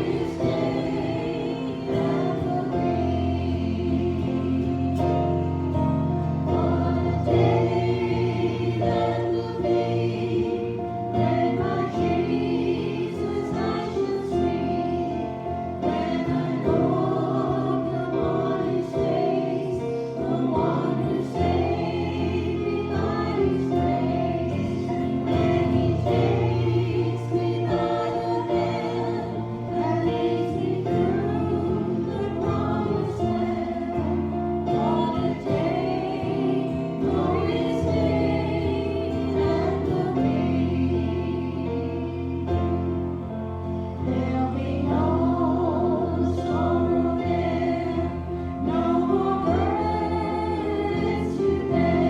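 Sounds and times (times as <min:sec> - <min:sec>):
group singing gospel song: 0:00.0 - 0:52.0.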